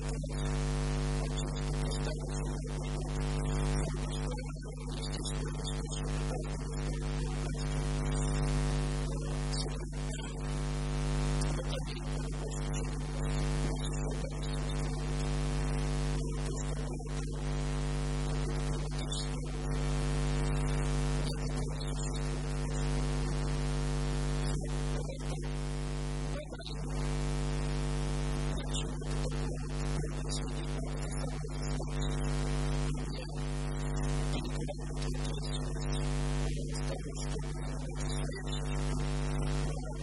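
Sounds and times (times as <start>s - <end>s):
electrical mains hum: 0.0s - 40.0s
static hiss: 0.0s - 40.0s.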